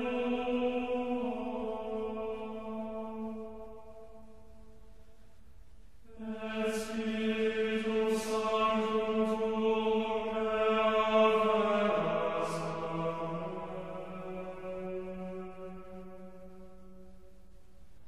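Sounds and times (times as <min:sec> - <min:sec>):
people singing hymn in unison: 0:00.0 - 0:04.2, 0:06.1 - 0:17.0.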